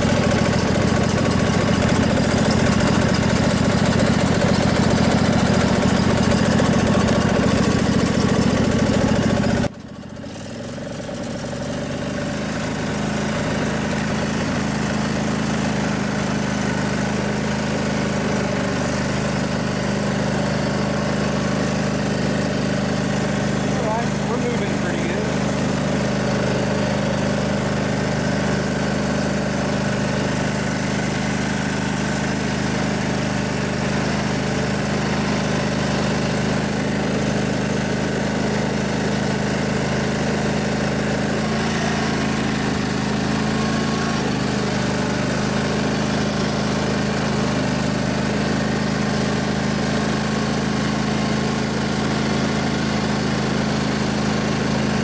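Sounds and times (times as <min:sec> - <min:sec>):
riding lawnmower engine running: 0:00.0 - 0:55.0.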